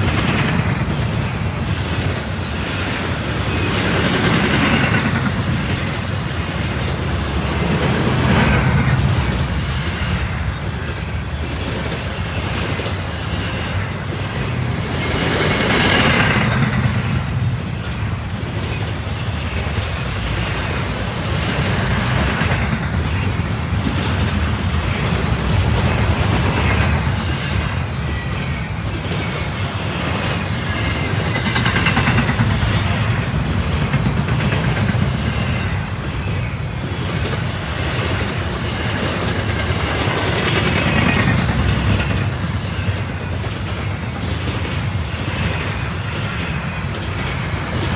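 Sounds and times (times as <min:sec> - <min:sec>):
freight train rumbling past: 0:00.0 - 0:47.9
wheels clattering on rails: 0:00.0 - 0:47.9.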